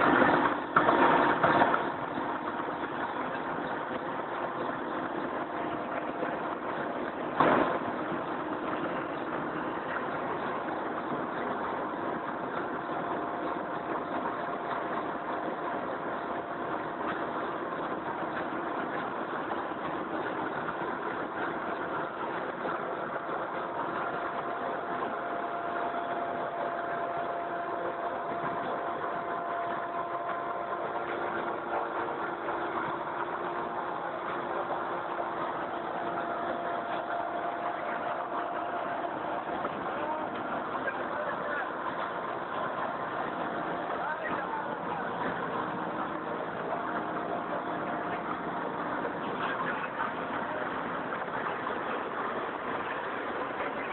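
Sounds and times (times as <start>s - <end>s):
helicopter engines and rotor running: 0.0s - 53.9s.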